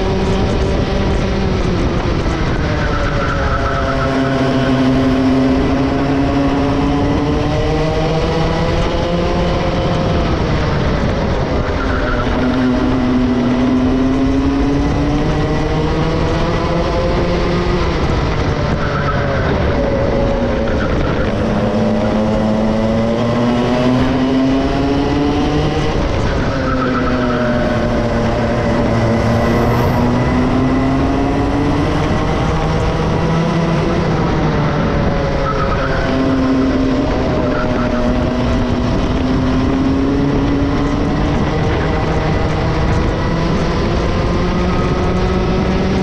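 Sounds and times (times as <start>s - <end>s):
kart engine running under load: 0.0s - 46.0s.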